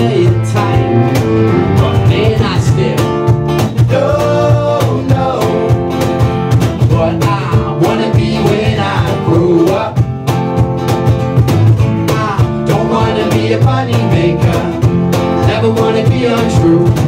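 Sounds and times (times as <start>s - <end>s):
person singing lead vocal: 0.0s - 6.1s, 6.8s - 10.1s, 12.0s - 17.0s
acoustic guitar: 0.0s - 17.0s
cajon beat: 0.0s - 17.0s
electric bass: 0.0s - 17.0s.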